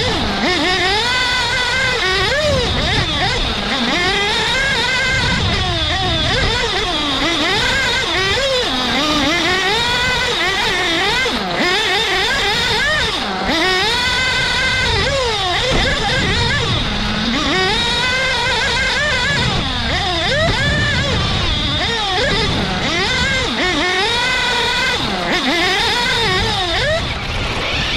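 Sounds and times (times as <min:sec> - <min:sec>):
model car motor revving: 0:00.0 - 0:27.9.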